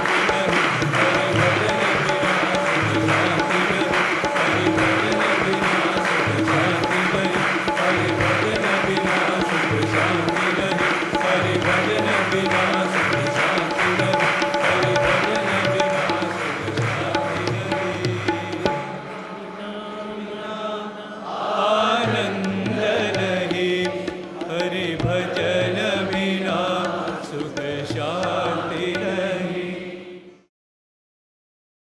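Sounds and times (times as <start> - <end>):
person singing a chant-like melody: 0.0 - 30.5.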